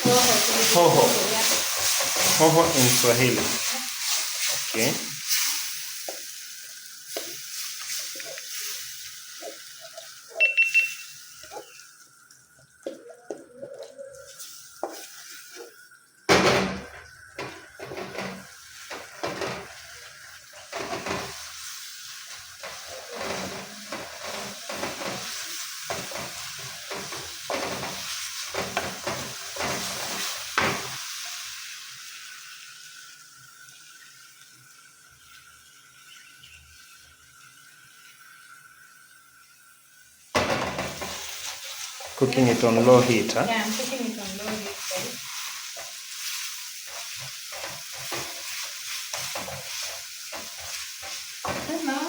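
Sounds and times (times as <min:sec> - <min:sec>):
sauce sizzling: 0:00.0 - 0:52.0.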